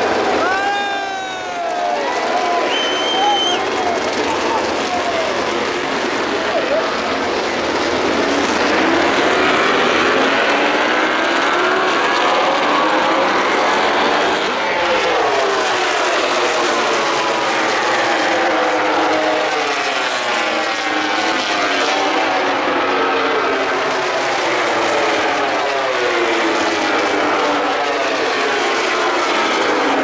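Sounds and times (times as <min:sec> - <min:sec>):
racing motorcycles passing: 0:00.0 - 0:30.0.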